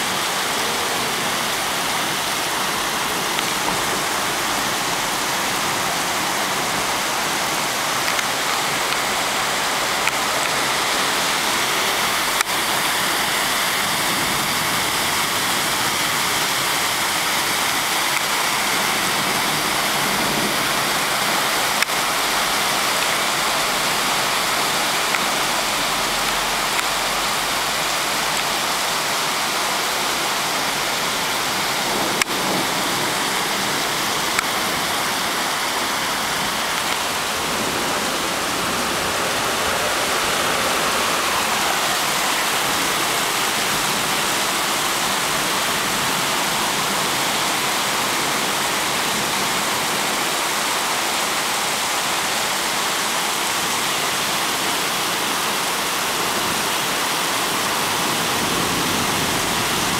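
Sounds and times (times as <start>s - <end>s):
floodwater rushing along street: 0.0s - 59.9s
heavy rain pouring: 0.0s - 59.9s.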